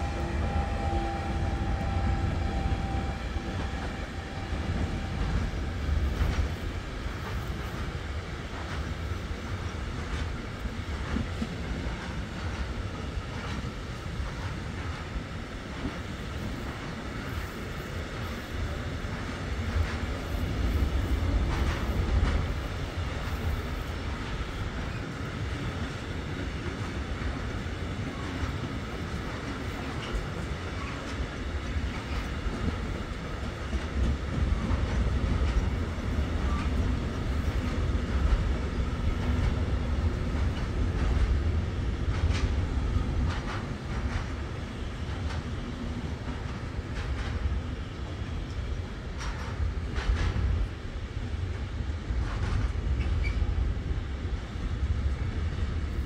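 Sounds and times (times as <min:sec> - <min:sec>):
wheels rumbling on rails: 0:00.0 - 0:56.0.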